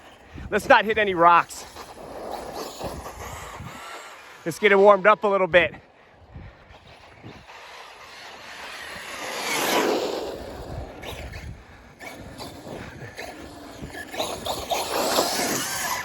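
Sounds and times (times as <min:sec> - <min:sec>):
rc car driving by: 0:00.0 - 0:16.0.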